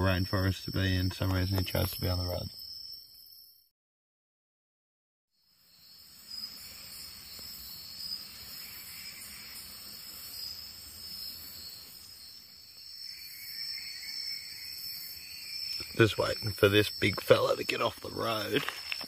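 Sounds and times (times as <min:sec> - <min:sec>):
insects trilling: 0:00.0 - 0:03.6, 0:05.4 - 0:19.0
lower insect trill: 0:00.0 - 0:03.7, 0:05.3 - 0:19.0.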